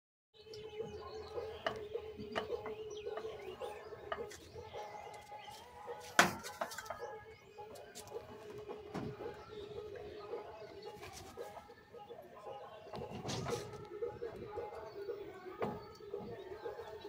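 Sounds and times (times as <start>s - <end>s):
birds chirping: 0.4s - 17.0s.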